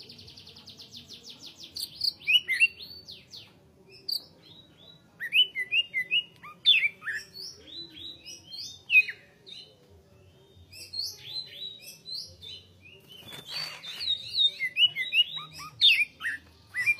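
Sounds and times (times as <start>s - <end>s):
bird singing whistles and chirps: 1.5s - 9.7s, 10.6s - 16.9s.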